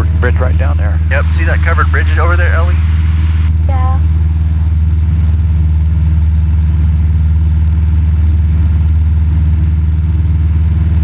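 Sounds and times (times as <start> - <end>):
airplane engine drone in cabin: 0.0 - 11.0.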